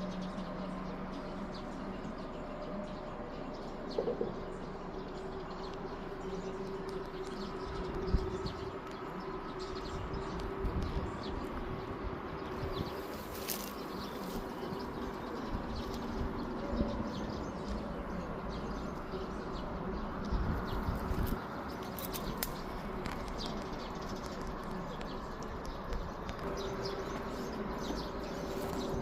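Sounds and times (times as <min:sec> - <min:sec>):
birds chirping: 0:00.0 - 0:29.0
low steady bird call: 0:00.0 - 0:29.0.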